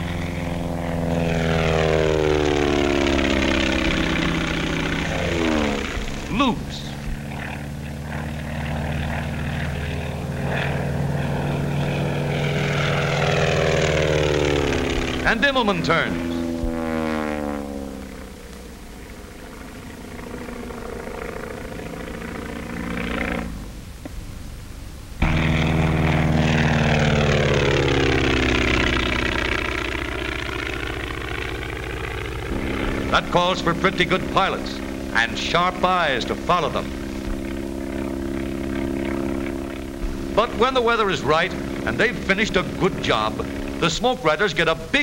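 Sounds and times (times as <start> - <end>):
propeller plane engine droning: 0.0 - 45.0.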